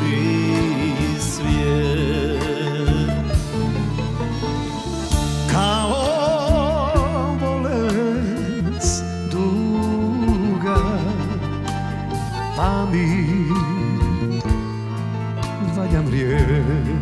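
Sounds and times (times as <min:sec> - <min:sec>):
lead melody with wide vibrato: 0:00.0 - 0:17.0
live band playing a ballad: 0:00.0 - 0:17.0.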